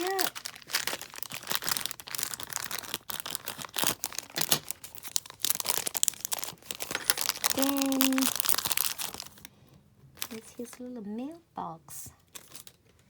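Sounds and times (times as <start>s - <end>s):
plastic packaging crinkling: 0.0s - 11.4s, 12.2s - 13.0s.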